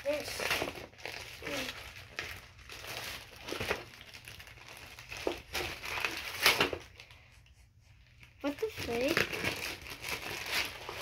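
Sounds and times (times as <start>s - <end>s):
plastic mailer crinkling: 0.0s - 7.3s, 8.0s - 11.0s.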